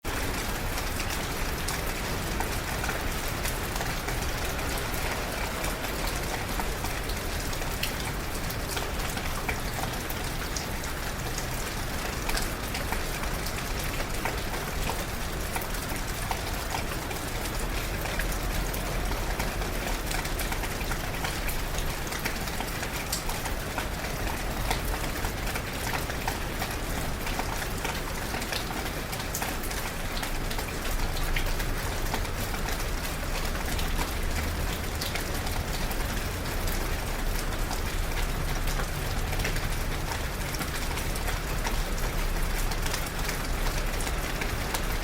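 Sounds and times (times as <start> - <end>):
hiss of rainfall: 0.0 - 45.0.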